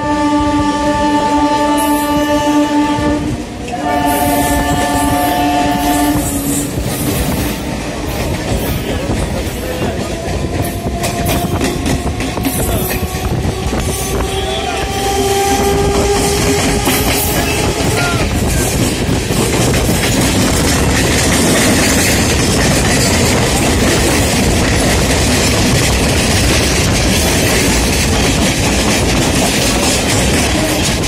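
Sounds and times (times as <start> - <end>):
train wheels rumbling on rails: 0.0 - 31.0
wheels clacking over rail joints: 3.5 - 31.0.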